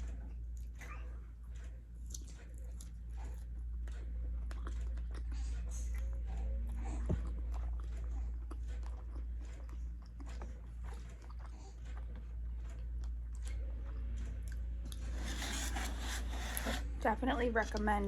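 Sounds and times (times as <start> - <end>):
person chewing: 0.0 - 16.9
steady low hum: 0.0 - 18.0.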